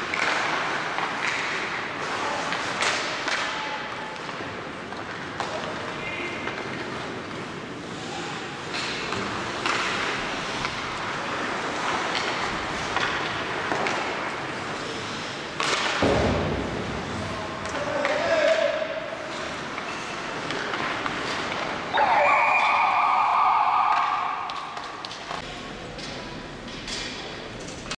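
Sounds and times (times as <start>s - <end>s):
hockey sticks and puck clacking: 0.0s - 22.9s, 23.9s - 27.9s
skating and arena noise: 0.0s - 27.9s.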